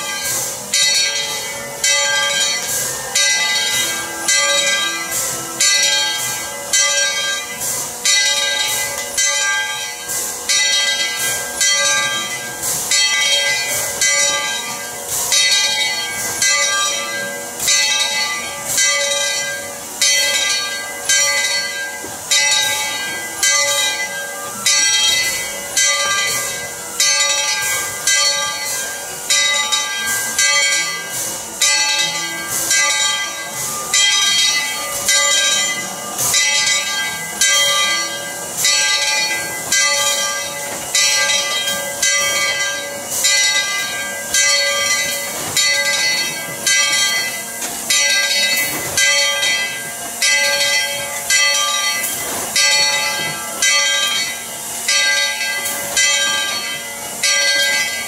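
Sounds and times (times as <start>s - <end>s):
locomotive bell ringing: 0.0s - 58.0s
steam hissing: 0.0s - 58.0s.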